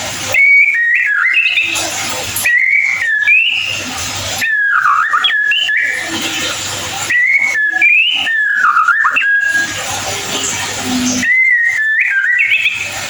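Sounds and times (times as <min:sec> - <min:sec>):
bird whistled song: 0:00.3 - 0:13.0
bird scratchy chatter: 0:00.9 - 0:13.0.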